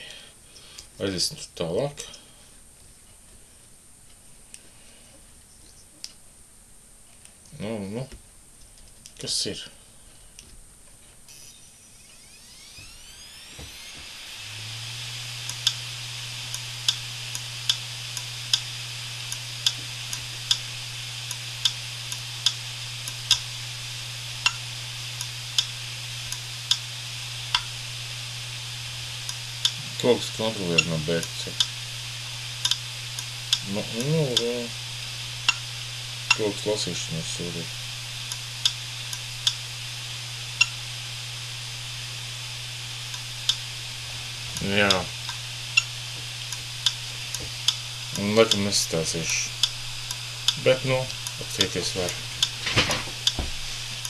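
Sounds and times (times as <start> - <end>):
hard disk platters humming: 7.4 - 54.0.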